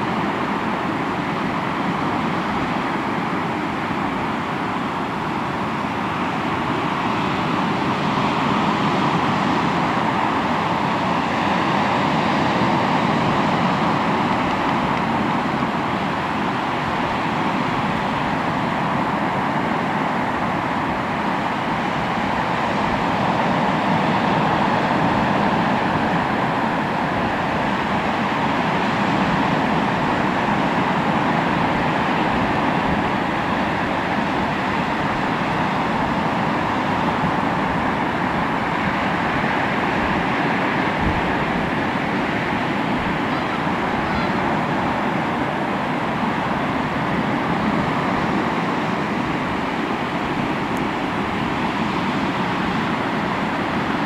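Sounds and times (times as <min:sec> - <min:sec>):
sea waves on shore: 0:00.0 - 0:54.0.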